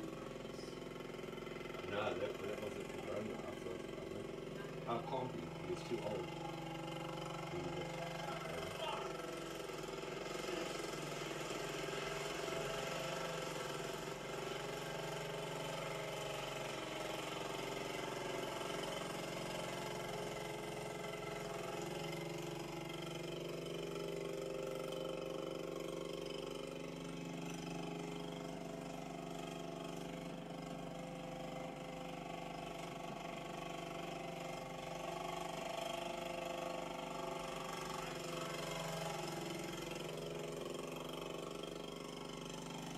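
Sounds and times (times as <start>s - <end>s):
quad bike engines revving: 0.0s - 42.9s.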